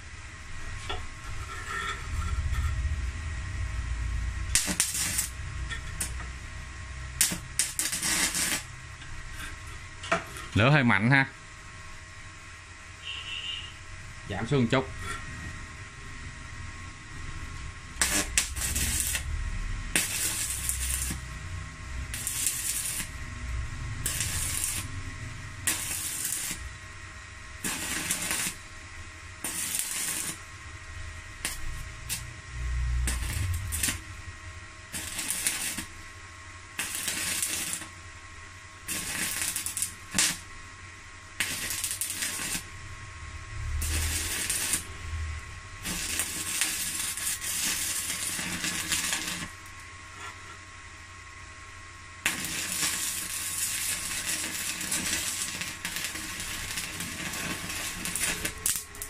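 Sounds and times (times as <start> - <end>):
welding arc hissing and crackling: 0.0 - 11.3, 12.0 - 59.0.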